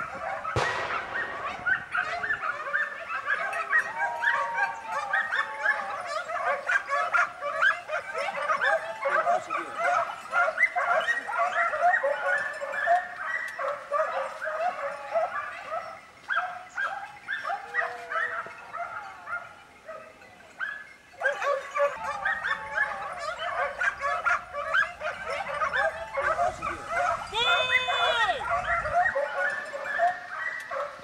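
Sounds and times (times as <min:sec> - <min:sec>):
hounds yelping and baying: 0:00.0 - 0:31.0.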